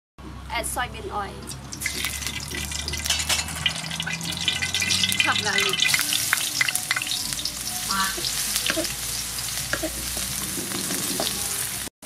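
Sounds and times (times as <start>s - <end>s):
garlic sizzling in oil: 1.5s - 11.9s
spatula stirring in wok: 1.5s - 11.9s.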